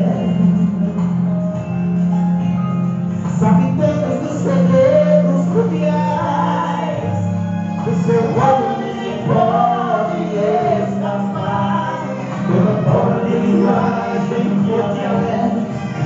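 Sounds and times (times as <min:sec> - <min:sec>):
men singing gospel: 0:00.0 - 0:01.1, 0:03.3 - 0:16.0
live band playing: 0:00.0 - 0:16.0.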